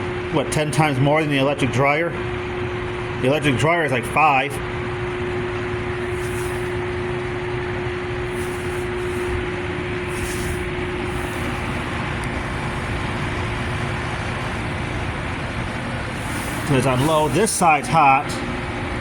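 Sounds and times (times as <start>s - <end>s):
heater fan blowing air: 0.0s - 19.0s
steady hum: 0.0s - 19.0s.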